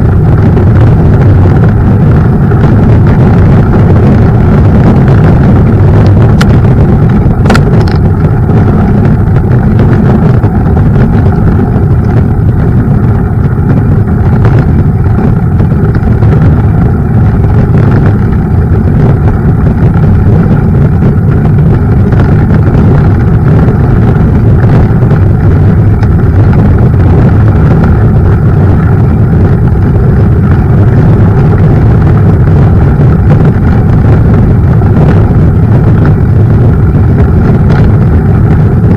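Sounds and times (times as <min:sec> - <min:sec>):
mountain bike tyre and frame rumble: 0:00.0 - 0:38.9
wind buffeting microphone: 0:00.0 - 0:38.9.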